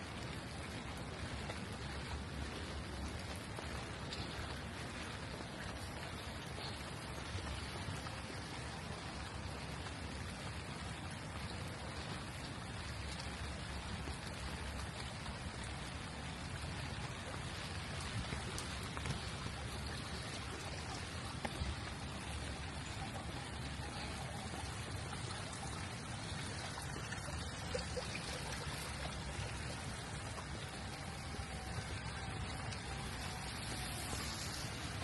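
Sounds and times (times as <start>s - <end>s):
rain hissing: 0.0s - 35.0s
raindrops hitting ground: 0.0s - 35.0s.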